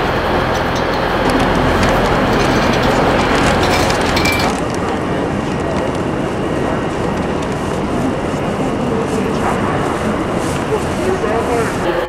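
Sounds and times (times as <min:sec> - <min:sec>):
crowd hubbub: 0:00.0 - 0:12.0.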